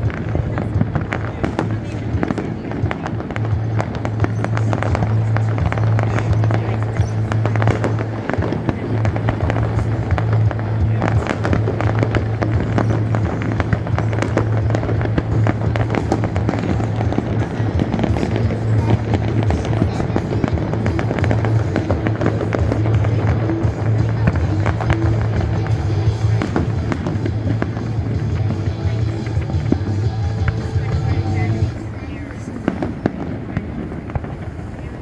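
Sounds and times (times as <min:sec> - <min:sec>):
music: 0:00.0 - 0:34.8
fireworks crackling and popping: 0:00.0 - 0:35.0
low drone: 0:00.0 - 0:35.0.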